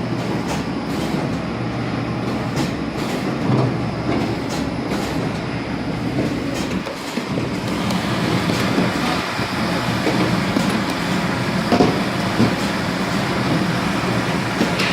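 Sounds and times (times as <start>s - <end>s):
packaging machine rattle and hum: 0.0s - 14.9s.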